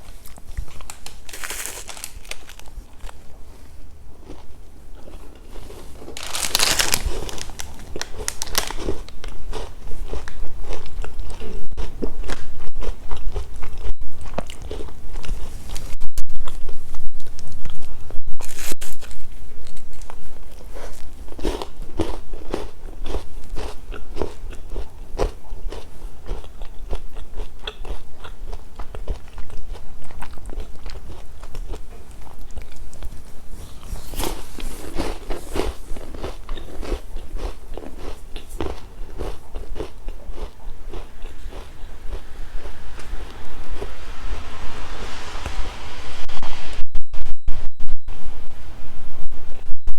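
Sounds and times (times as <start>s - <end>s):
crunchy snack chewing: 0.0s - 3.4s, 4.2s - 16.7s, 17.3s - 43.4s.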